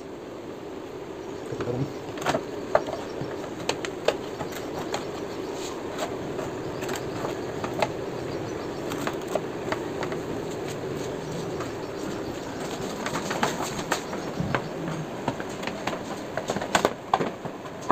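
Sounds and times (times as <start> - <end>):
steady background hum: 0.0 - 17.9.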